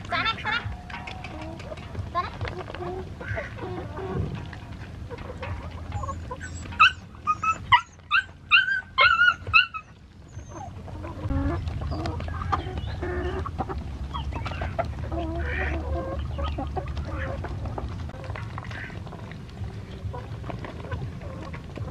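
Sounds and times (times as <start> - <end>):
birds pecking: 0.0 - 21.9
chickens clucking: 0.0 - 21.9.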